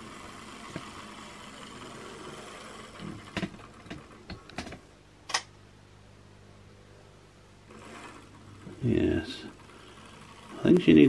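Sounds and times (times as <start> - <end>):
faint motor hum: 0.0 - 11.0.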